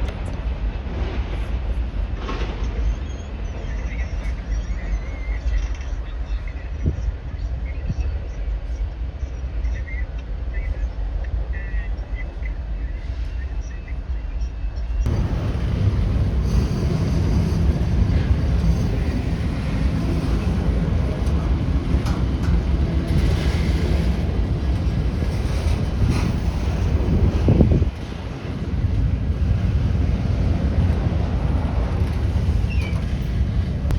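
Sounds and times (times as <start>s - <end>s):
freight train rumbling past: 0.0s - 9.7s, 10.3s - 33.9s.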